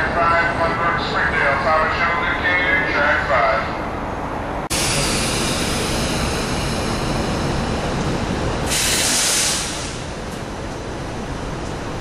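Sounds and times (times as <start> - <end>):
train rushing rail noise: 0.0 - 12.0.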